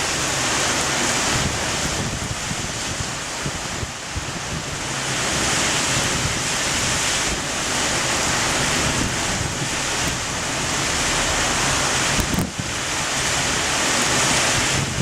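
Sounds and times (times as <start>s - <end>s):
rain: 0.0s - 15.0s
strong storm wind: 0.0s - 15.0s
wind buffeting microphone: 1.1s - 15.0s.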